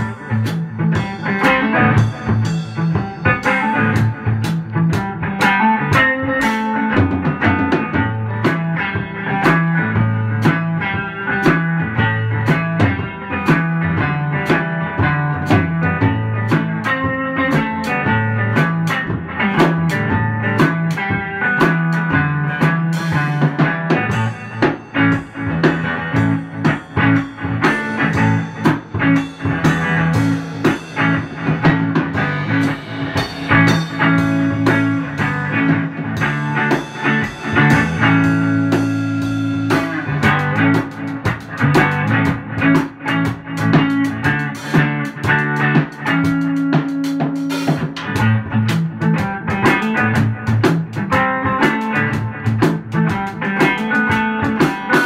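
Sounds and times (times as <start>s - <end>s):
drum kit steady beat: 0.0s - 55.0s
electric guitar improvising: 0.0s - 55.0s.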